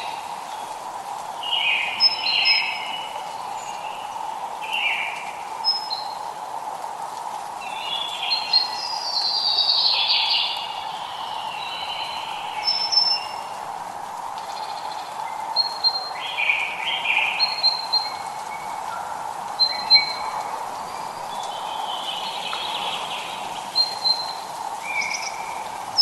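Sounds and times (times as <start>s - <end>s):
birds calling and singing: 0.0s - 6.3s, 7.6s - 13.6s, 14.2s - 26.0s
light rain hiss: 0.0s - 26.0s.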